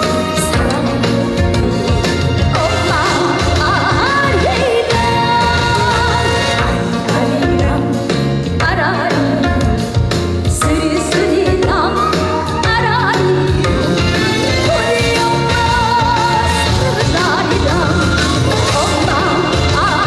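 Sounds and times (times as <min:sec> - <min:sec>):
band accompaniment: 0:00.0 - 0:20.0
woman singing with vibrato: 0:00.0 - 0:20.0.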